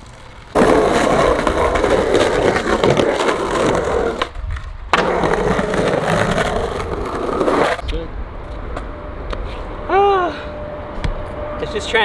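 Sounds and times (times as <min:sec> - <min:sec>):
skateboard wheels rolling on concrete: 0:00.0 - 0:09.8.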